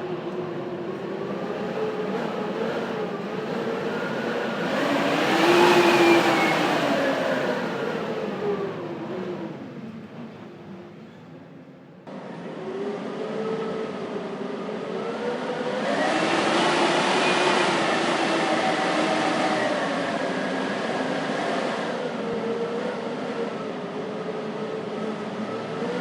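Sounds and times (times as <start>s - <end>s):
blizzard wind whistling: 0.0s - 26.0s.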